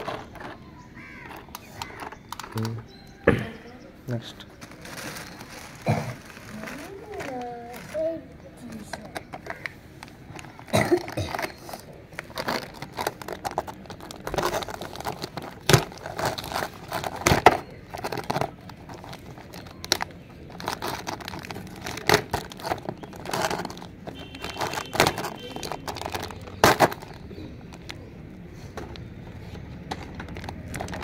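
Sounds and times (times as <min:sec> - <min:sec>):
plastic bag crinkling: 0:04.4 - 0:29.1, 0:29.7 - 0:31.0.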